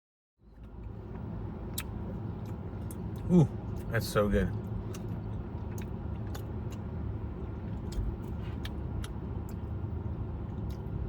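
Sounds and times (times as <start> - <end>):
air conditioning blower hum: 0.5 - 11.0.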